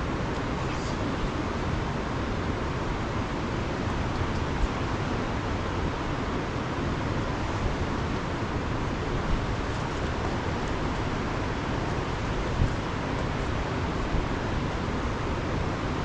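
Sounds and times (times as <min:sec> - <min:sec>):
storm and floodwater rushing: 0:00.0 - 0:16.0.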